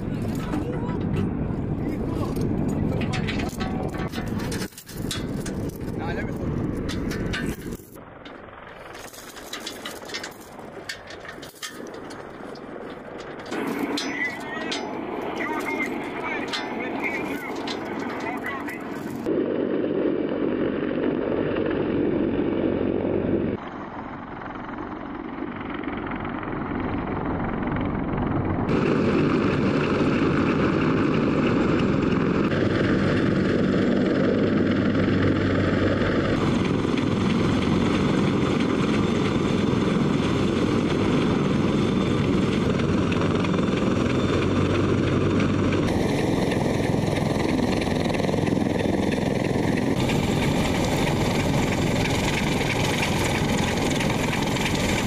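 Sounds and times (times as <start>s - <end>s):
faint turbine whine: 0.0s - 55.0s
helicopter rotors and turbines: 0.0s - 55.0s.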